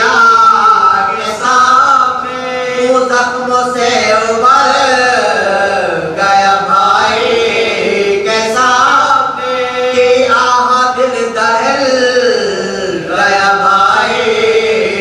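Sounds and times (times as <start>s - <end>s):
men chanting religious recitation: 0.0s - 15.0s.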